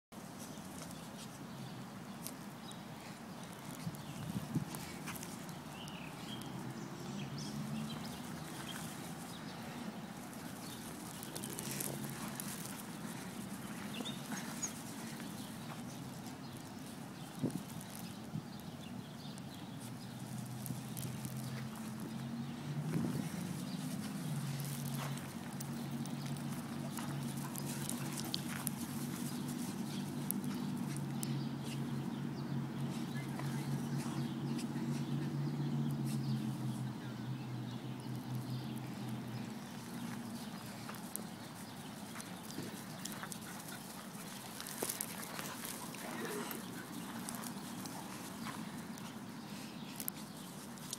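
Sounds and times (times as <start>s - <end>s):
dog paws scampering on frozen ground: 0.2s - 50.9s.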